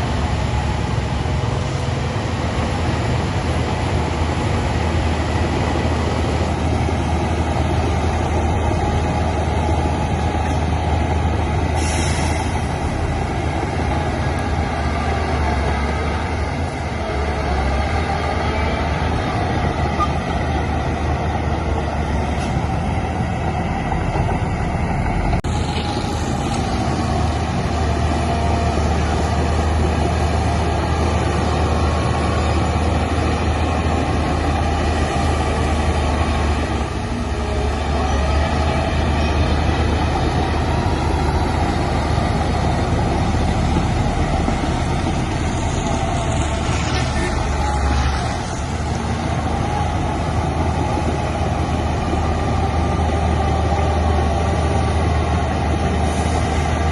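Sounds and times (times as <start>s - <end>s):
heavy diesel engine droning: 0.0s - 56.9s.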